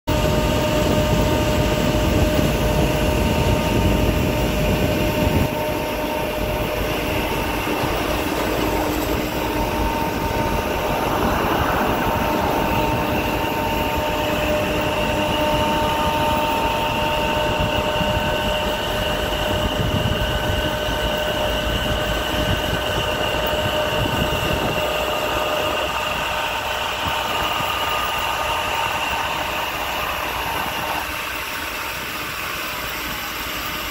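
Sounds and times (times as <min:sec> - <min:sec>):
engine and road noise: 0:00.1 - 0:33.9
mist cannon blower whining: 0:00.1 - 0:33.9.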